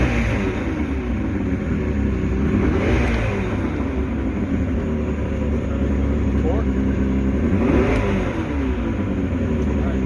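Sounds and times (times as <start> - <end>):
outboard motor idling: 0.0 - 10.0.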